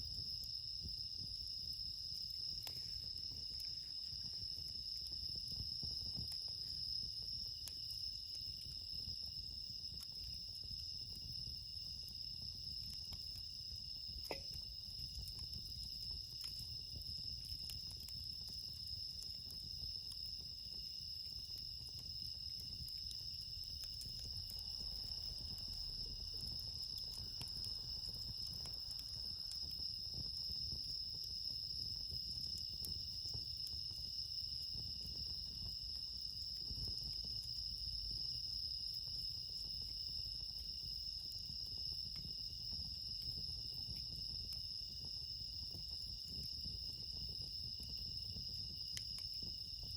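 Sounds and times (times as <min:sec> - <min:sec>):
campfire ticks: 0:00.0 - 0:49.9
crickets trilling: 0:00.0 - 0:49.9.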